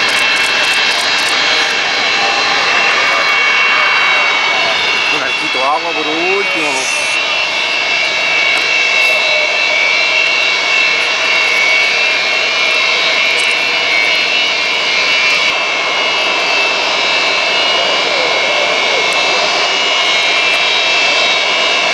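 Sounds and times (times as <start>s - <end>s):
jet engines whining: 0.0s - 21.9s.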